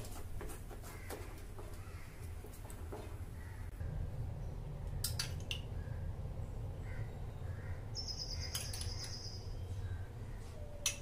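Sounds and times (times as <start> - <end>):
low steady hum: 1.4 - 11.0.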